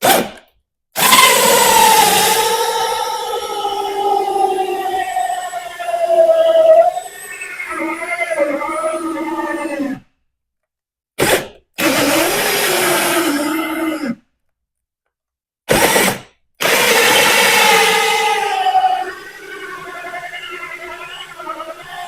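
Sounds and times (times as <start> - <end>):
power drill with hole saw cutting wood: 0.0 - 0.4, 1.0 - 10.0, 11.2 - 14.2, 15.7 - 22.0.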